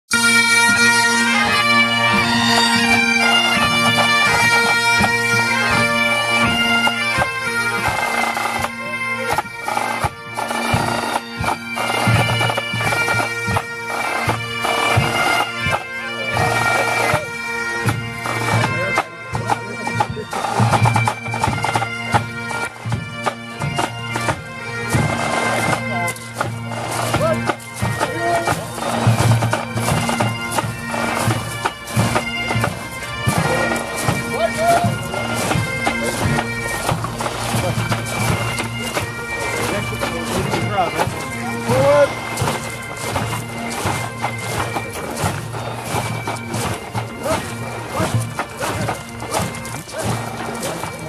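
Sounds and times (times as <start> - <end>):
pipe band playing a march: 0.1 - 51.0.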